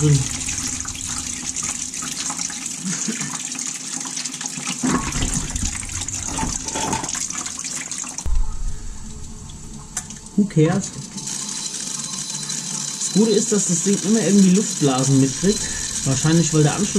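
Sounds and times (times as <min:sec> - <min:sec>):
water gushing from hose: 0:00.0 - 0:08.3, 0:11.1 - 0:16.9.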